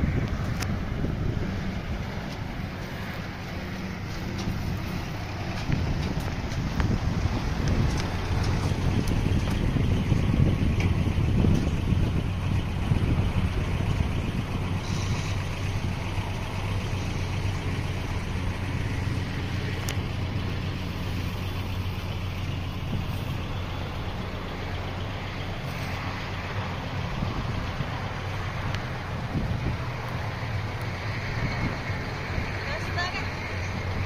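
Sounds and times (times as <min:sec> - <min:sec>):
pickup truck engine: 0:00.0 - 0:34.0.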